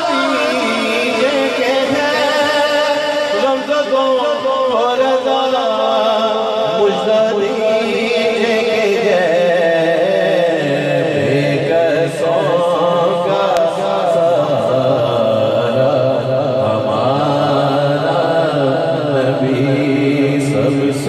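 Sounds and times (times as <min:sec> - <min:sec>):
man singing into a microphone: 0:00.0 - 0:21.0.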